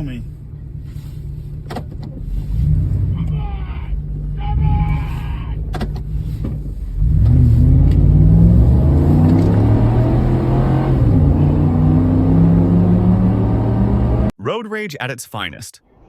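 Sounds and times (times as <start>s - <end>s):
car engine accelerating: 0.0s - 14.3s.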